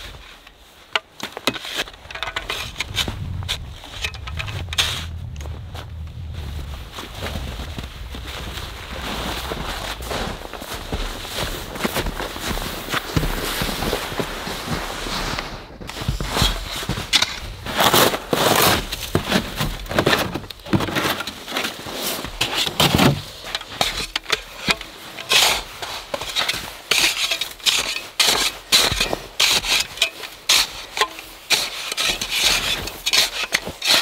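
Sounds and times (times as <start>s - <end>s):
shovel crunching and scraping snow: 0.0s - 34.0s.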